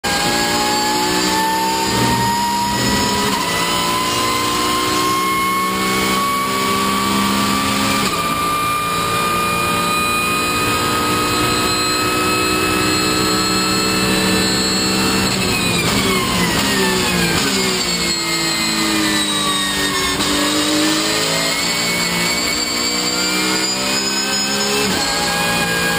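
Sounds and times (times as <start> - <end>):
race car engine at full throttle: 0.0 - 25.9.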